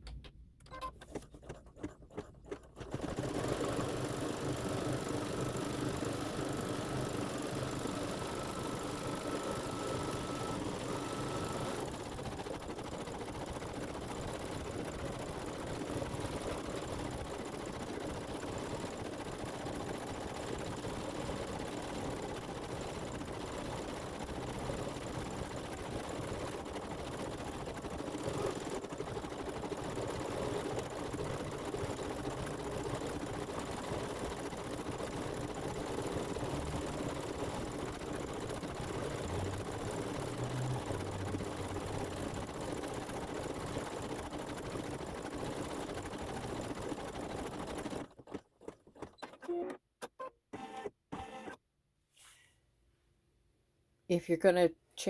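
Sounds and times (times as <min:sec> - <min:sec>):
embroidery machine stitching: 0:00.7 - 0:51.6.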